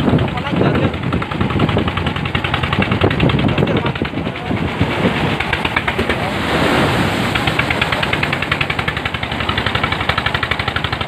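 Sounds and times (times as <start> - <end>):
boat motor pulsing: 0.0 - 11.0
water splashing against hull: 0.0 - 11.0.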